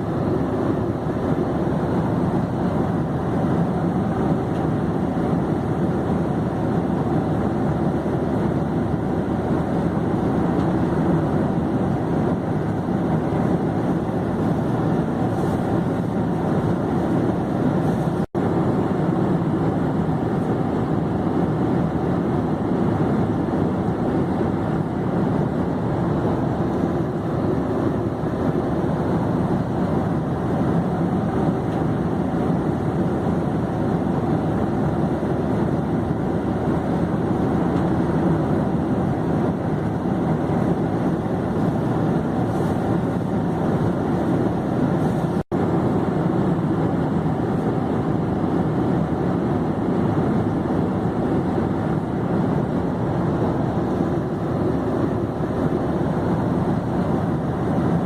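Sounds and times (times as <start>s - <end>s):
airplane engines and airflow: 0.0s - 58.0s.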